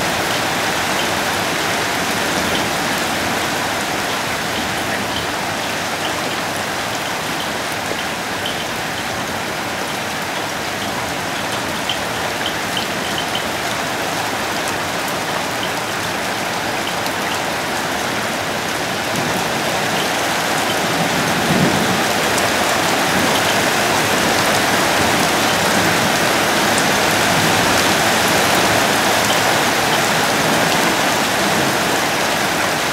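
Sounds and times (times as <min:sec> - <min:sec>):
hail ticking on pavement: 0:00.0 - 0:32.9
heavy rain hiss: 0:00.0 - 0:32.9.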